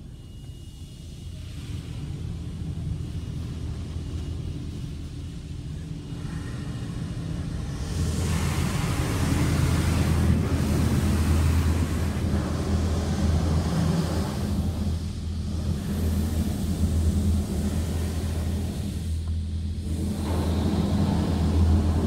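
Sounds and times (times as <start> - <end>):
low hum inside car: 0.0 - 22.0.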